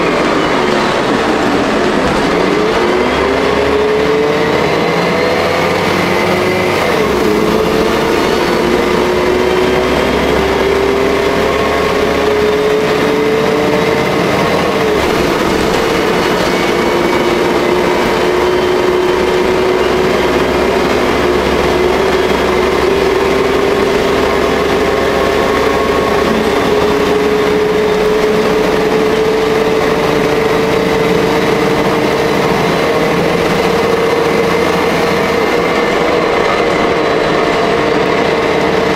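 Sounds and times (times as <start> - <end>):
bus engine whine: 0.0 - 38.9
low engine rumble: 0.0 - 38.9
road noise: 0.0 - 38.9.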